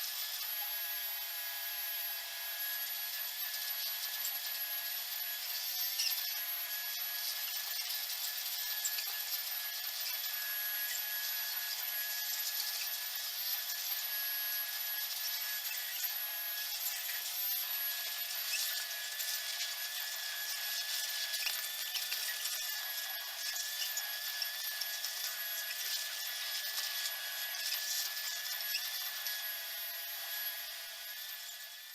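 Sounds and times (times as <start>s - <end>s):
vacuum cleaner motor whine: 0.0s - 31.9s.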